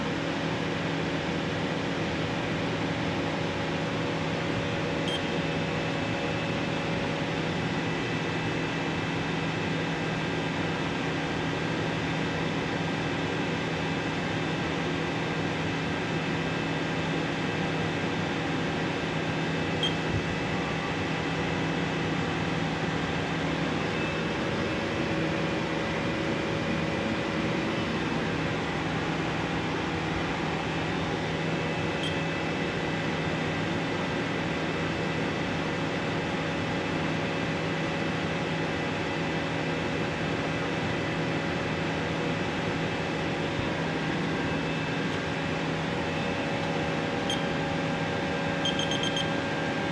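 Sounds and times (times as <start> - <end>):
machine hum with constant tones: 0.0 - 49.9.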